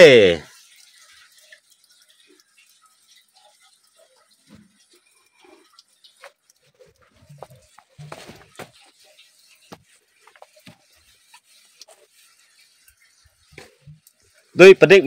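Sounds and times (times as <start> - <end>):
water dripping into pool: 0.0 - 14.6.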